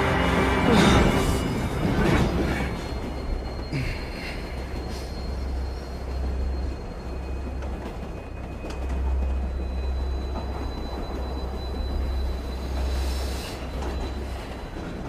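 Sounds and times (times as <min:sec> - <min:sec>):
faint high whine: 0:00.0 - 0:14.9
rail noise: 0:00.0 - 0:15.0
train low rumble: 0:00.0 - 0:15.0.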